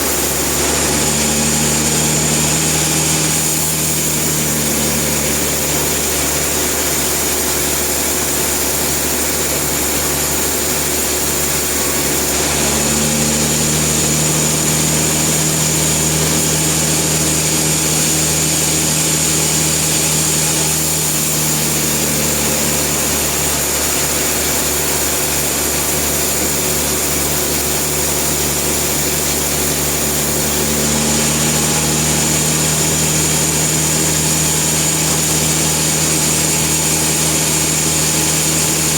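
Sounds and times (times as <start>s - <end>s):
sawmill machine whining: 0.0s - 38.9s.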